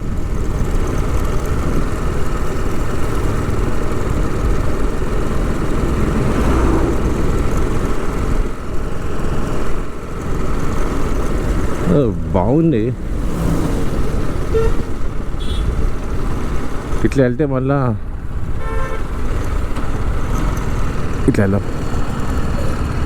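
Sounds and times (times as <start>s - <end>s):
motorcycle engine running steadily: 0.0s - 13.2s, 13.9s - 23.0s.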